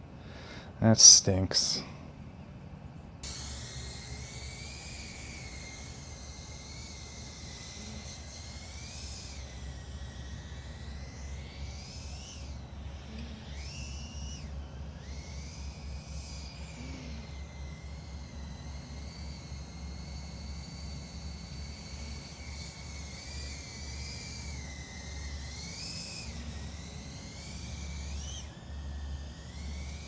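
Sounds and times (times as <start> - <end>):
quadcopter motors whining: 0.0 - 30.0
low hum: 1.6 - 30.0.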